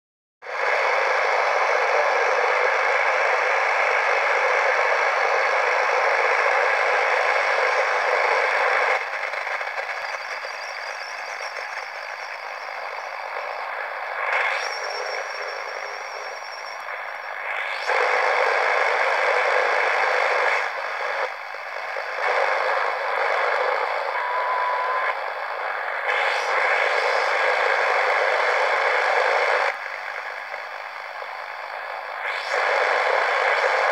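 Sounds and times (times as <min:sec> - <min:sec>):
radio static hiss: 0:00.4 - 0:33.9
faint radio whistles: 0:00.5 - 0:33.9.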